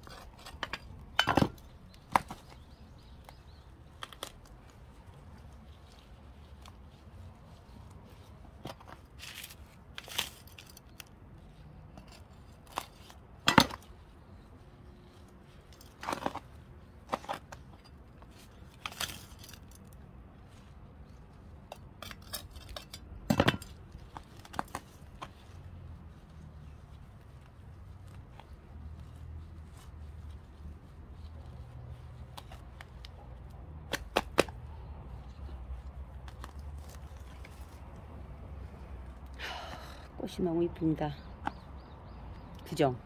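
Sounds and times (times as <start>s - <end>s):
soil crunching and rustling: 0.0s - 43.0s.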